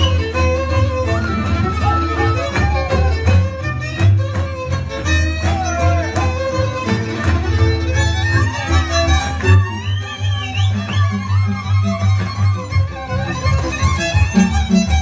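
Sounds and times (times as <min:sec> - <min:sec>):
double bass pulsing: 0:00.0 - 0:15.0
fiddle melody: 0:00.0 - 0:15.0.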